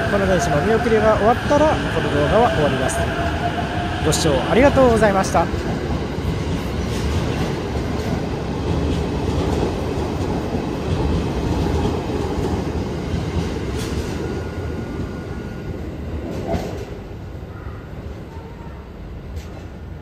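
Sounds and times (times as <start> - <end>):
electric train running rumble: 0.0 - 20.0.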